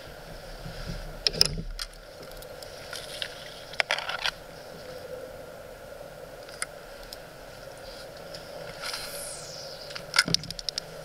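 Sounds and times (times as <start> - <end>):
soft water noise: 0.0 - 11.0.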